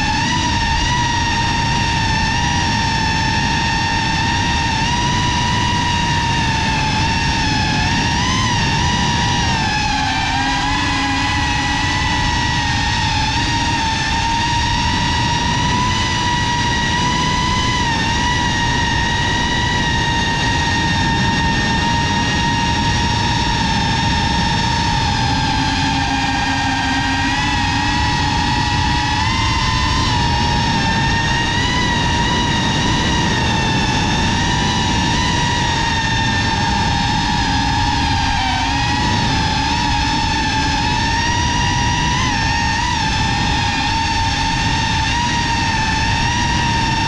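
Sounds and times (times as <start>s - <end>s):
drone motors whining: 0.0s - 47.0s
low rushing noise: 0.0s - 47.0s.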